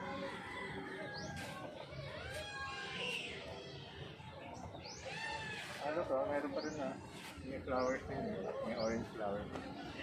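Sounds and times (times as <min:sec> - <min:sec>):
birds chirping: 0:00.0 - 0:10.0
faint voices: 0:00.0 - 0:10.0.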